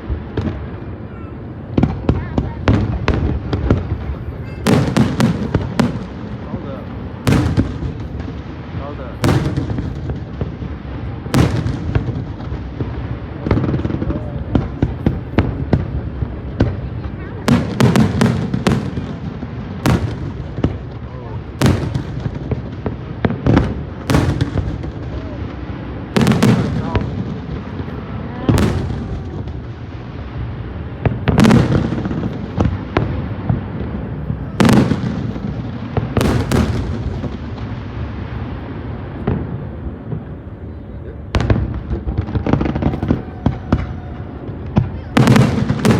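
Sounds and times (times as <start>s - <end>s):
fireworks booming: 0.0s - 45.9s
fireworks cracking and popping: 0.0s - 45.9s.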